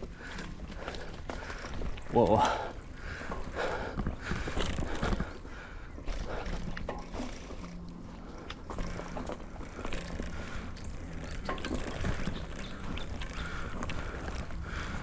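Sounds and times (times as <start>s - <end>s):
bicycle tyres rumbling: 0.0s - 15.0s
bike rattling over rough ground: 0.0s - 15.0s.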